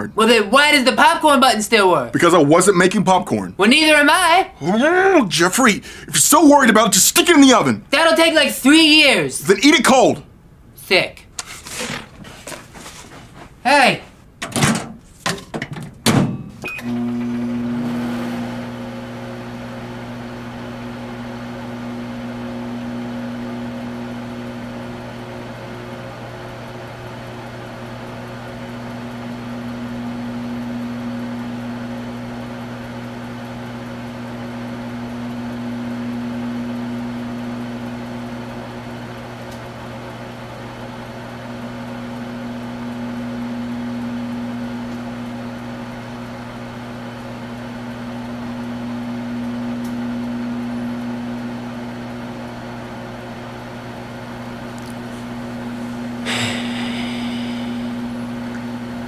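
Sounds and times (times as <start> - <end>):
microwave oven humming: 0.0 - 13.0, 13.6 - 59.0.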